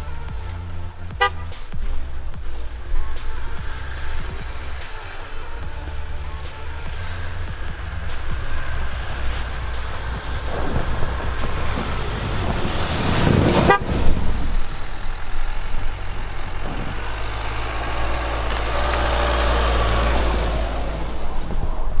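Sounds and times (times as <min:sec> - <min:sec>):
suv engine climbing: 0:00.0 - 0:22.0.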